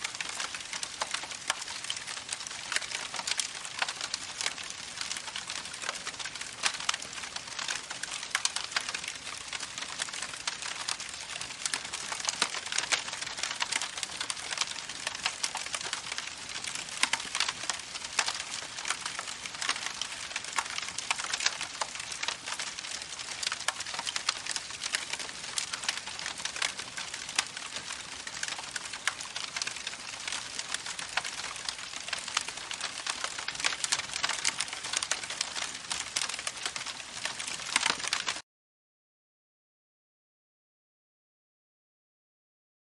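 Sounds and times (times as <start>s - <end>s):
campfire crackling: 0.0s - 38.4s.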